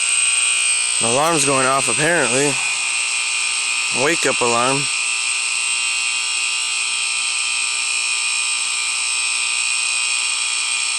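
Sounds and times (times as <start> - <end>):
high-pitched alarm buzz: 0.0 - 10.9.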